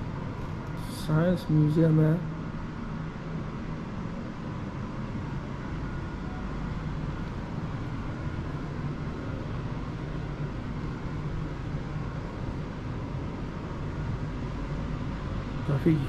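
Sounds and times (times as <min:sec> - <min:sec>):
low room noise rumble and hiss: 0:00.0 - 0:16.0.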